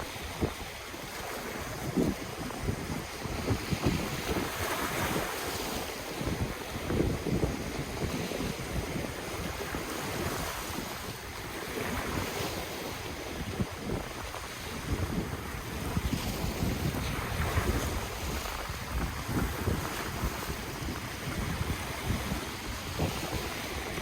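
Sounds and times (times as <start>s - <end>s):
ocean surf washing: 0.0s - 24.0s
wind buffeting microphone: 0.0s - 24.0s.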